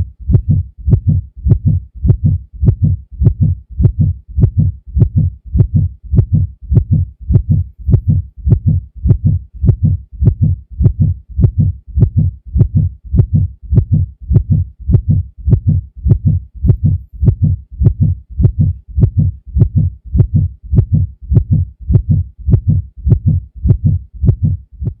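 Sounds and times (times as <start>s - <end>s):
heartbeat thumps: 0.0s - 25.0s.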